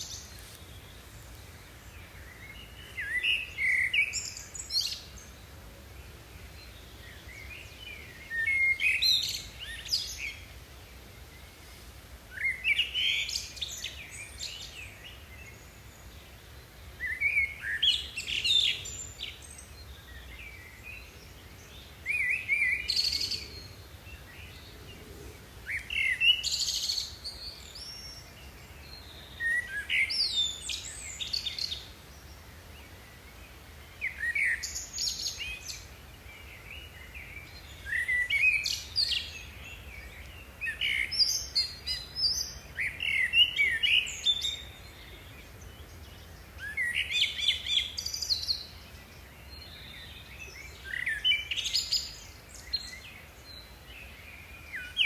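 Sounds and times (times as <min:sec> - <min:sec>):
songbird chirps and trills: 0:00.0 - 0:55.0.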